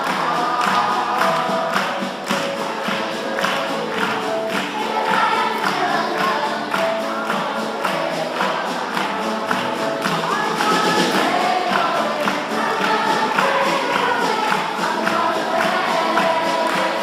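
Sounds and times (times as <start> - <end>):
acoustic guitar: 0.0 - 17.0
children's choir singing: 0.0 - 17.0
steady beat: 0.0 - 17.0.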